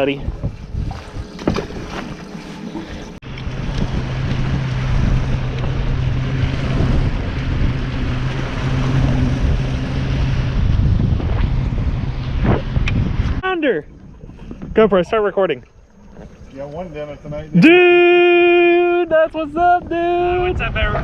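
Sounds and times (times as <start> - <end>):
wind on microphone: 0.0 - 17.6, 18.3 - 21.0
boat motor running: 0.0 - 21.0.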